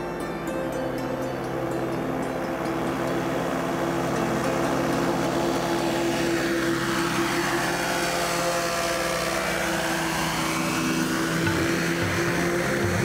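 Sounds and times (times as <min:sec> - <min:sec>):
microlight engine and propeller: 0:00.0 - 0:13.0.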